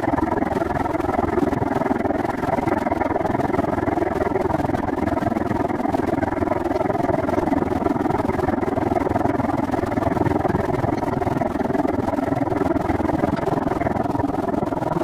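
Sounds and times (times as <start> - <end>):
bicycle ride rushing and rumbling: 0.0 - 15.0.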